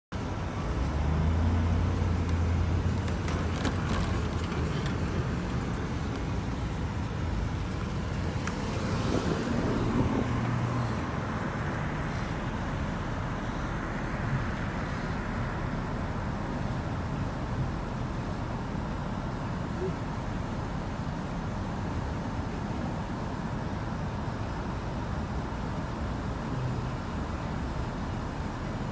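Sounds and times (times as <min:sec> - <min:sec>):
car engine and road rumble: 0:00.1 - 0:28.9.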